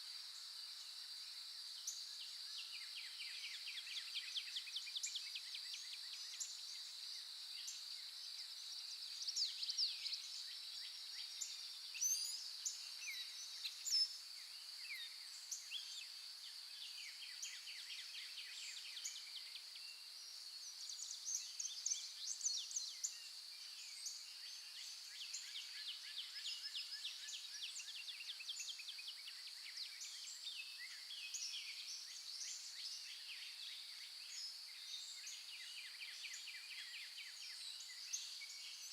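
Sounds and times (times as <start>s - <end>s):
small birds chirping: 1.8s - 38.9s.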